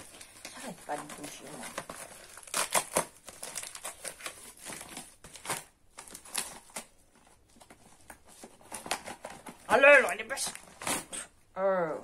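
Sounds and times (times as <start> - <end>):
packaging crinkling and rustling: 0.0 - 11.2.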